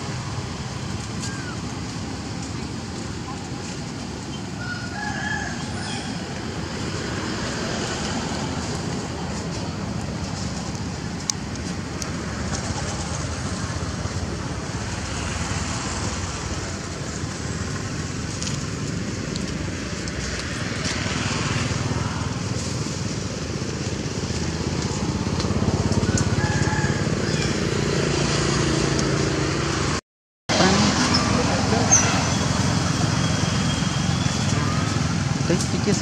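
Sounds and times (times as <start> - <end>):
outdoor background rumble and hiss: 0.0 - 36.0.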